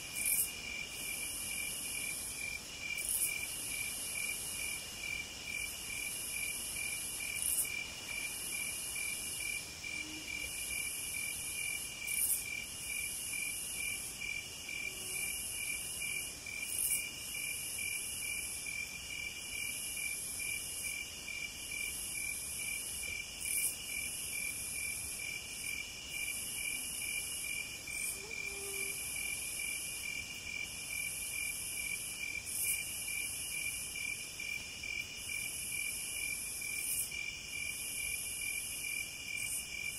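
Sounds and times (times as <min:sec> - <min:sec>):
cricket chirping: 0:00.0 - 0:39.9
high-pitched insect song: 0:00.1 - 0:39.9.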